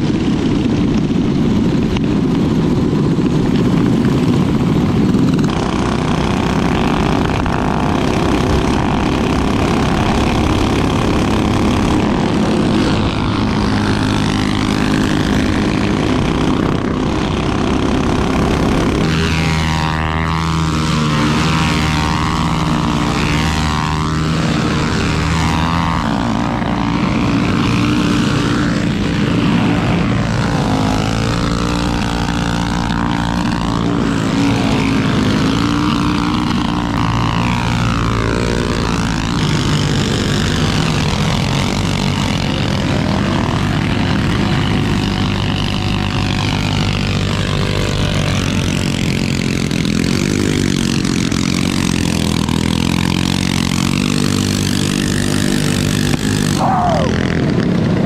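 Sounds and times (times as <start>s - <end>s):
mini bike engines running: 0.0s - 58.0s.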